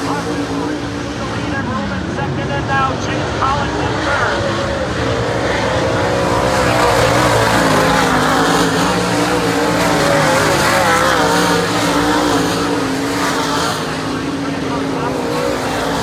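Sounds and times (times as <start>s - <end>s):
race car engines racing: 0.0s - 16.0s.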